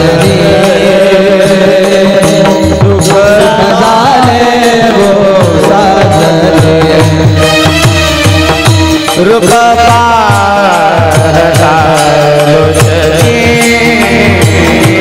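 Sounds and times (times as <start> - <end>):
devotional music: 0.0 - 15.0.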